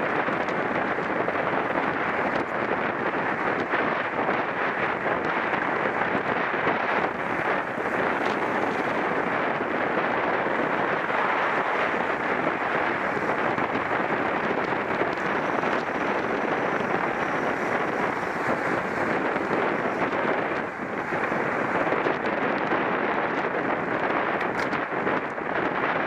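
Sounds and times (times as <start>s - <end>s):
wind rush on microphone: 0.0s - 26.0s.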